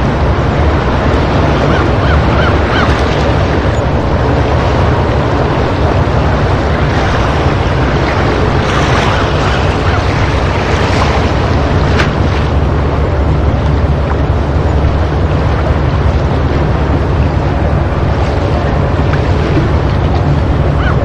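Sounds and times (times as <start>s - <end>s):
sea waves washing against rocks: 0.0s - 21.0s
wind rumbling on microphone: 0.0s - 21.0s.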